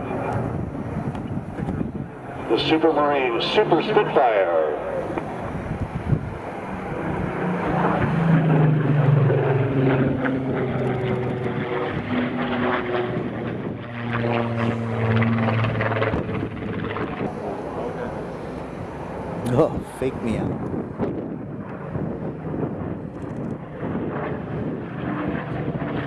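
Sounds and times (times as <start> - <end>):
aircraft piston engine passing: 0.0 - 26.0.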